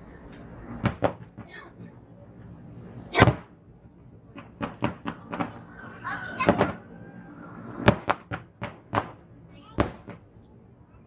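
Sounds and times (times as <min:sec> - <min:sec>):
fireworks bangs: 0:00.0 - 0:10.4.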